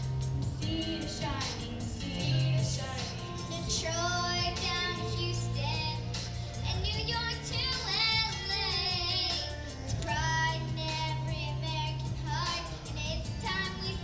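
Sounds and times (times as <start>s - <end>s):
backing music with bass line: 0.0s - 14.0s
girls singing into microphones: 0.4s - 14.0s.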